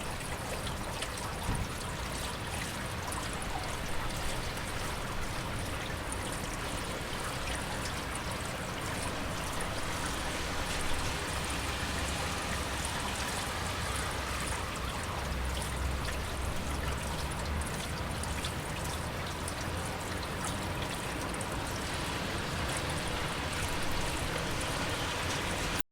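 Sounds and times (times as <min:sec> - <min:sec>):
heavy rain: 0:00.0 - 0:25.8
water pouring and trickling: 0:00.0 - 0:25.8.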